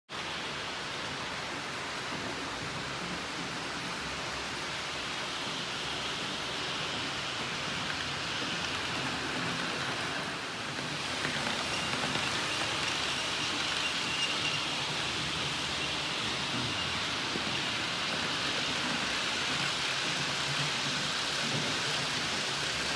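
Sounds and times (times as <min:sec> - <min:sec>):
model train wheels rushing on rails: 0:00.1 - 0:22.9.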